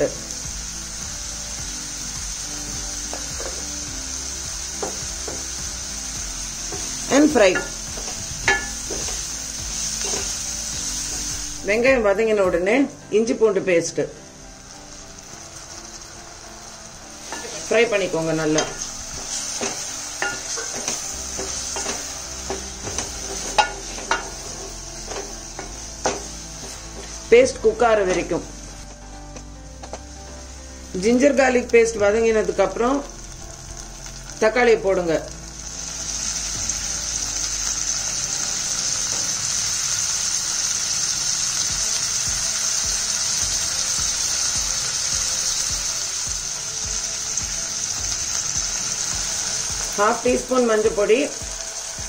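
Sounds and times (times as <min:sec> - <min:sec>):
onions sizzling in hot oil: 0:00.0 - 0:52.0.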